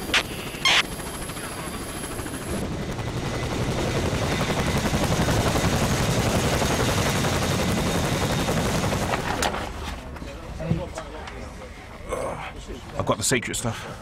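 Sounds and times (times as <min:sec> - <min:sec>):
helicopter rotors and engines: 0:00.0 - 0:12.0.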